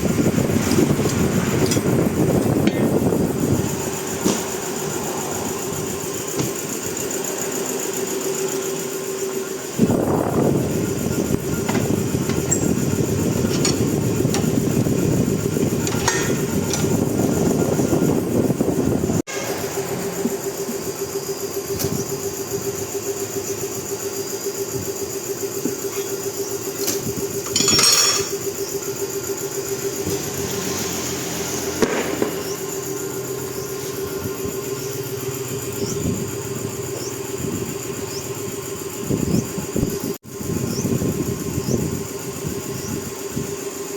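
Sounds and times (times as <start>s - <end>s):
engine running steadily: 0.0s - 43.9s
mechanical hum: 0.0s - 43.9s.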